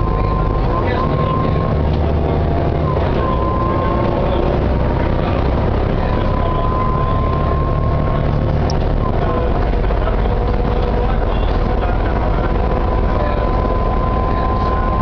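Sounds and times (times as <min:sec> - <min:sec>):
bus engine rumble: 0:00.0 - 0:15.0
gearbox whine: 0:00.0 - 0:15.0.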